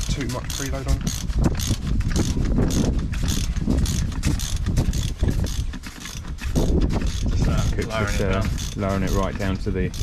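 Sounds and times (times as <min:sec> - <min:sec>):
hand ratchet clicking: 0:00.0 - 0:10.0.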